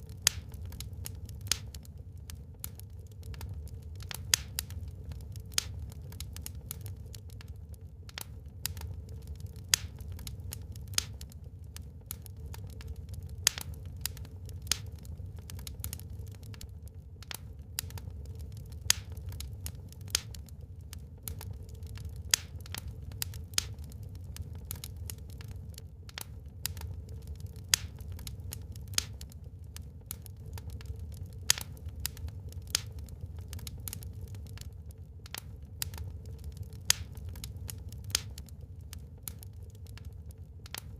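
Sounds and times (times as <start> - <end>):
fireplace wood crackling and popping: 0.0 - 40.9
low fire rumble: 0.0 - 40.9.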